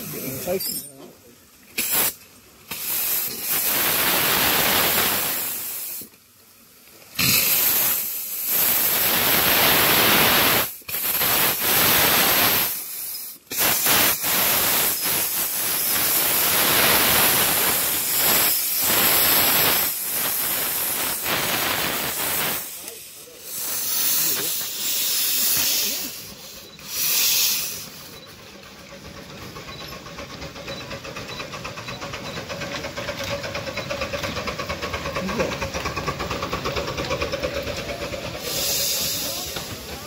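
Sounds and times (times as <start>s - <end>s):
steam locomotive hissing: 1.7s - 6.2s, 7.1s - 40.0s.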